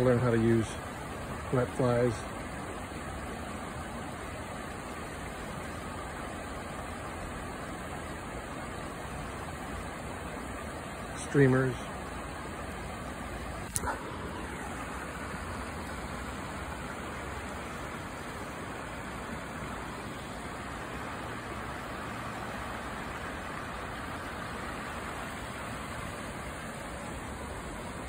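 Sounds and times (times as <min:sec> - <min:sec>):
creek rushing over rocks: 0:00.0 - 0:28.0.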